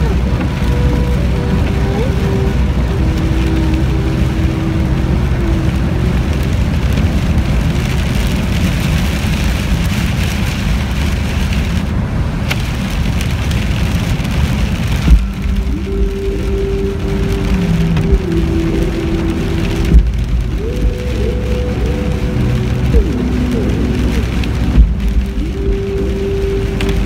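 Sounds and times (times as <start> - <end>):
car road rumble: 0.0 - 27.0
rain spattering windscreen: 0.0 - 27.0.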